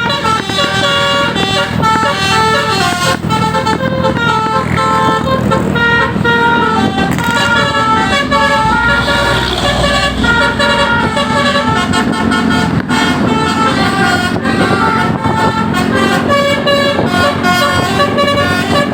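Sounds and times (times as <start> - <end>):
bus engine rumble: 0.0 - 18.9
musical air horn tune: 0.0 - 18.9.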